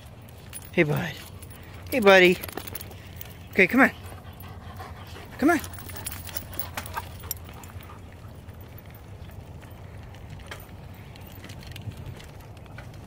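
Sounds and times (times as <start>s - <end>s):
faint clicks and rattles: 0.0s - 13.0s.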